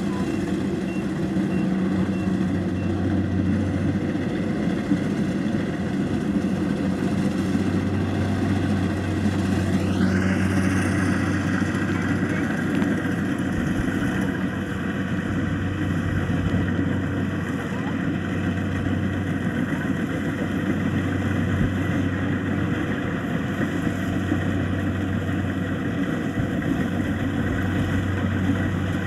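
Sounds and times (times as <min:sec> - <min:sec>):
combine harvester diesel engine: 0:00.0 - 0:29.0.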